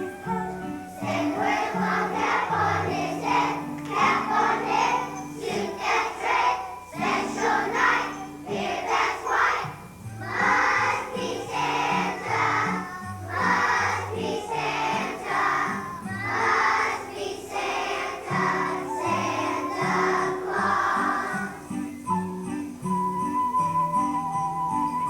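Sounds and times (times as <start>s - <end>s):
children's choir singing: 0.0s - 22.6s
piano accompaniment with walking bass: 0.0s - 25.0s.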